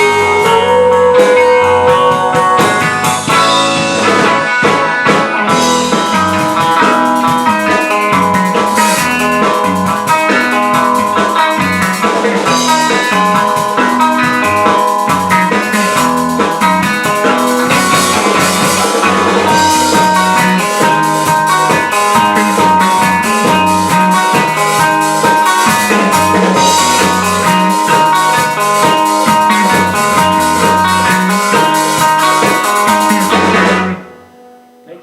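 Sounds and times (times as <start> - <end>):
drum kit beat: 0.0 - 34.1
rock band playing: 0.0 - 35.0.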